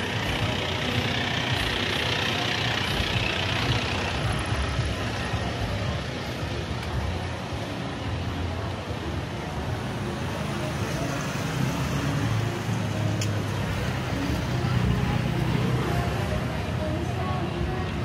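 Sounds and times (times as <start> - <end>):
traffic engines running: 0.0 - 18.0.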